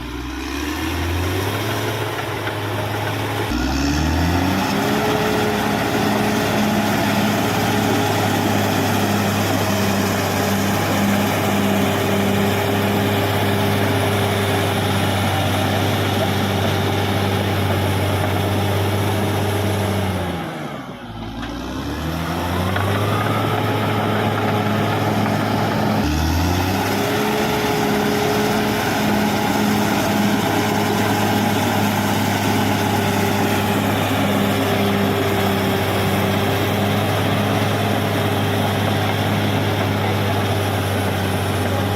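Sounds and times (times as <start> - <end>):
bulldozer diesel engine revving: 0.0 - 41.9.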